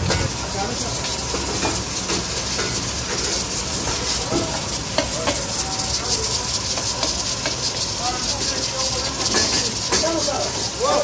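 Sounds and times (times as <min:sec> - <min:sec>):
food sizzling in woks: 0:00.0 - 0:11.0
gas burner flames roaring: 0:00.0 - 0:11.0.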